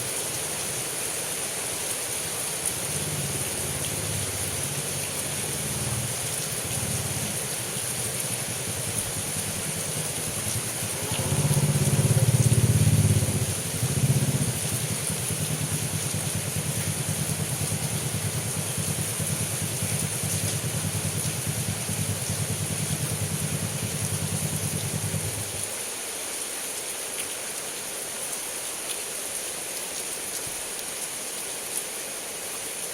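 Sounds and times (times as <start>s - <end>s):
heavy rain falling: 0.0s - 32.9s.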